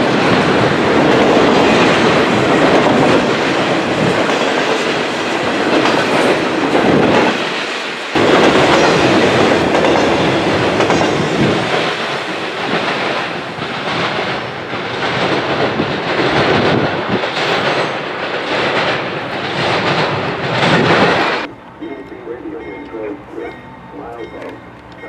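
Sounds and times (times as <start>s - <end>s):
freight train wheels clacking: 0.0s - 25.0s.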